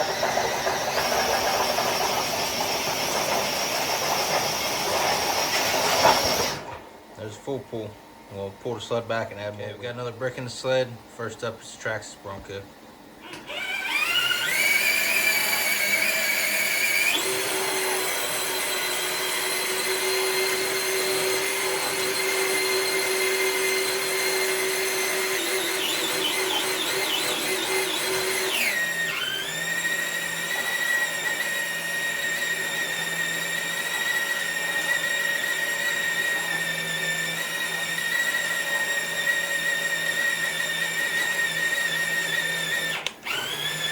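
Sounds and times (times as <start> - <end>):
toy car electric motor whining: 0.0 - 6.7, 13.2 - 43.9.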